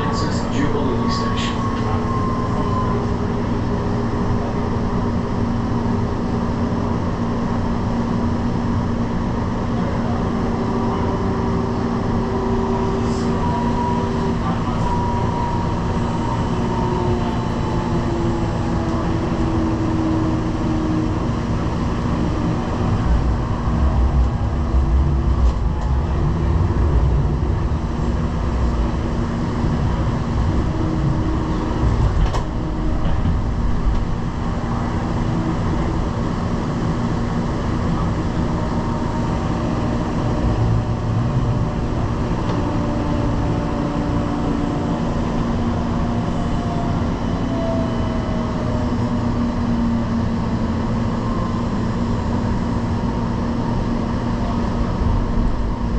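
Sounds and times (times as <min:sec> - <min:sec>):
light-rail train rumbling: 0:00.0 - 0:55.9.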